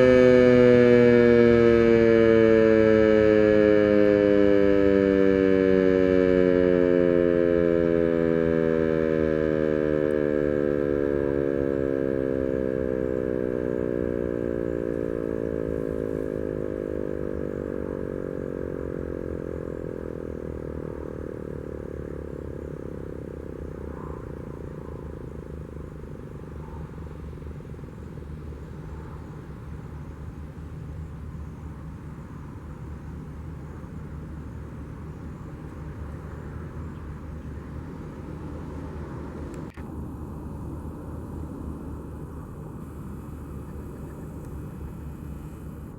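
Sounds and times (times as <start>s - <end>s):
warning siren winding down: 0.0s - 32.0s, 32.6s - 45.9s
low background rumble: 0.0s - 45.9s.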